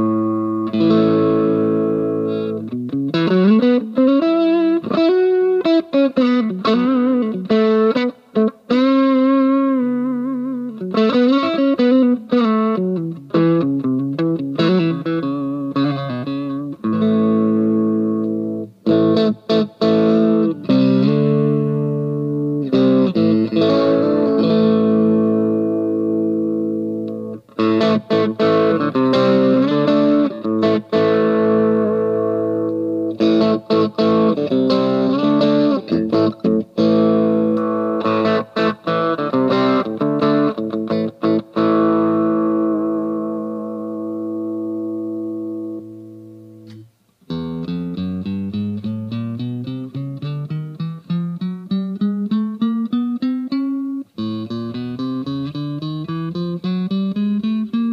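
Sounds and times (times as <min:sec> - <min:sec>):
electric guitar single notes: 0:00.0 - 0:57.9
strummed guitar chords: 0:00.0 - 0:57.9.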